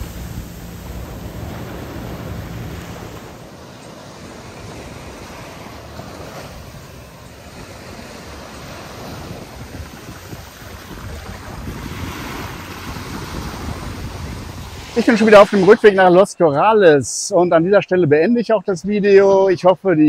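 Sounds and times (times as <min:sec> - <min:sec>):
wind buffeting microphone: 0:00.0 - 0:16.7
surf washing on sandy beach: 0:00.0 - 0:17.6.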